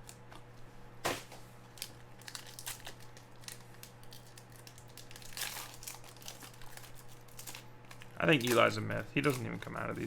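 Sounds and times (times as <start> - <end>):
cards rustling: 1.8 - 10.0
wrapper crinkling and tearing: 1.8 - 10.0.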